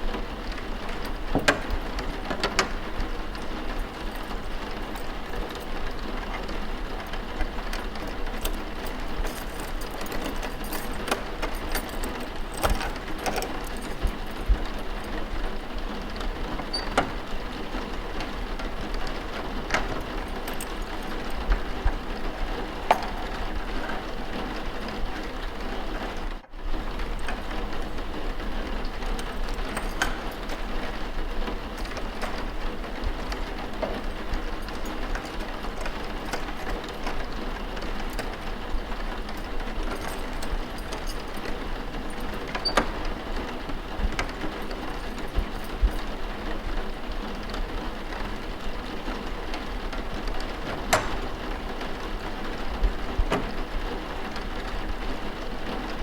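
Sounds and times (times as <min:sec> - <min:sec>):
faint clicks and knocks: 0:00.0 - 0:56.0.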